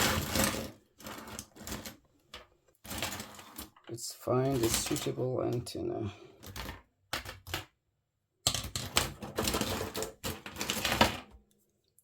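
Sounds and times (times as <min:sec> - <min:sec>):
small hard parts clattering: 0:00.0 - 0:05.7, 0:06.4 - 0:07.7, 0:08.4 - 0:11.4.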